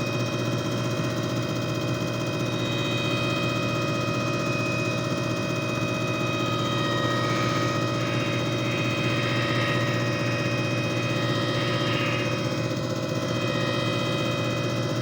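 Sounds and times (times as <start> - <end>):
electric motor hum with whine: 0.0 - 15.0.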